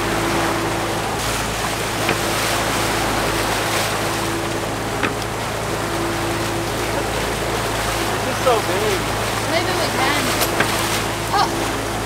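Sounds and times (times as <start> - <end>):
sea water rushing and splashing: 0.0 - 12.0
steady hum: 0.0 - 12.0.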